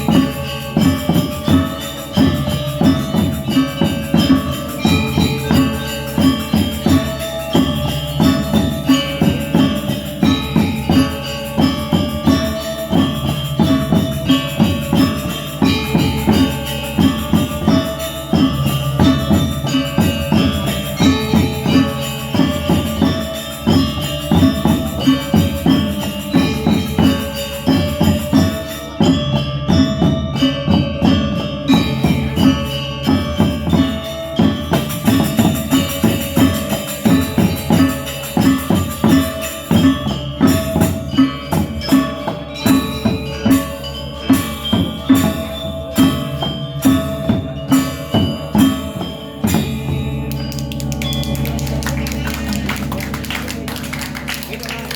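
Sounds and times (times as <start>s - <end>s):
metallophones ringing: 0.0s - 54.9s
steady drum strokes: 0.0s - 54.9s.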